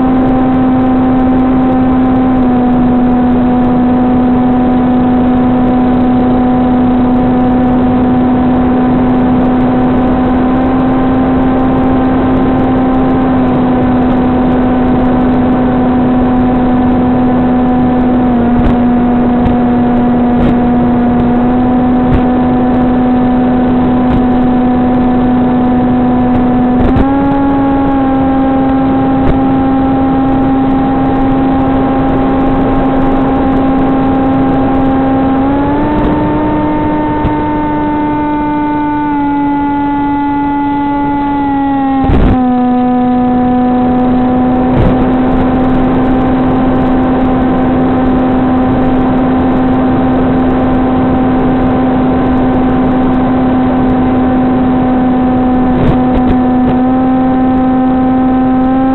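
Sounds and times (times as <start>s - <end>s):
electric motor whine: 0.0s - 58.9s.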